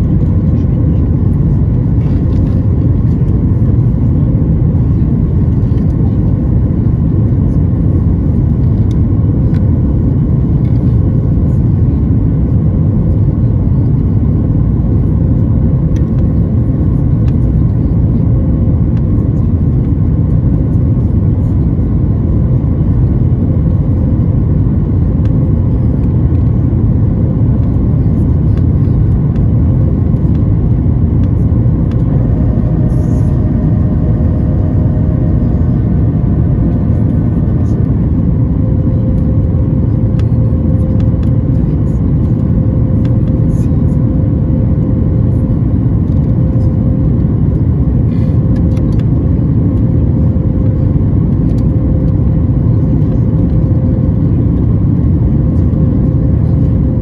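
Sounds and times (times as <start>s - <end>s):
airplane cabin roar: 0.0s - 57.0s.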